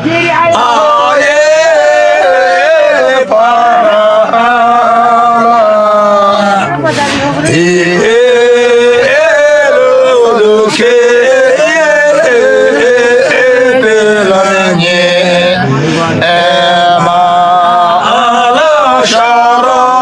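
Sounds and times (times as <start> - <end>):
men singing without instruments: 0.1 - 20.0.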